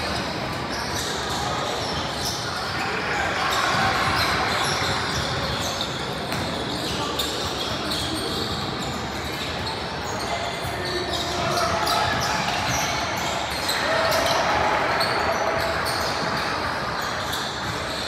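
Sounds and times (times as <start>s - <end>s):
voices echoing in a gym: 0.0s - 18.0s.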